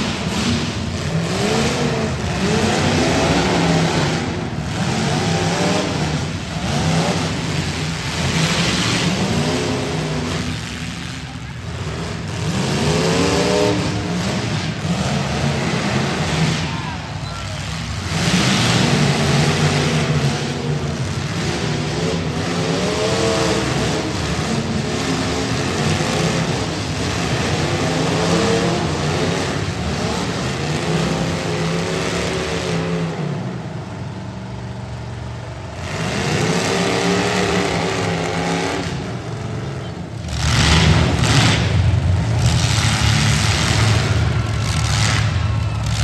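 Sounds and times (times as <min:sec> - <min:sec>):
car engines revving hard: 0:00.0 - 0:46.0.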